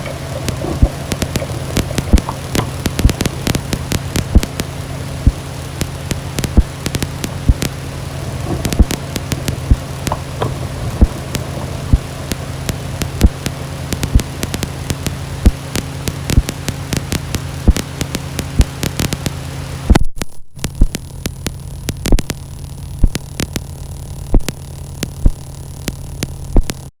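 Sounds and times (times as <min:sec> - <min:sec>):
low hum: 0:00.0 - 0:26.9
sharp clicks and crackles: 0:00.0 - 0:26.9.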